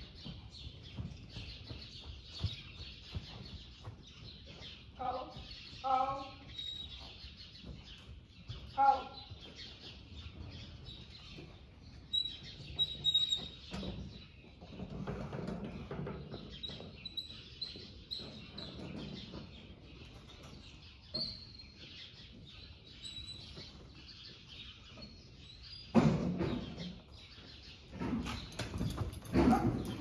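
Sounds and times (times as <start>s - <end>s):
horse hooves on arena footing: 0.0s - 30.0s
small birds chirping: 0.0s - 30.0s.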